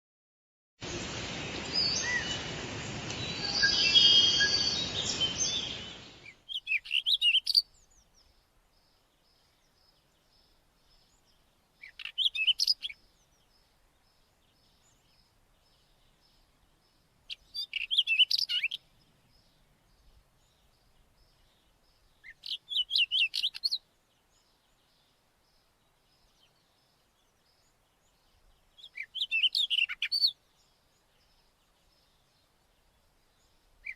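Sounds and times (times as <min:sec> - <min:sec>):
bird singing: 0:01.5 - 0:02.5, 0:03.2 - 0:33.9.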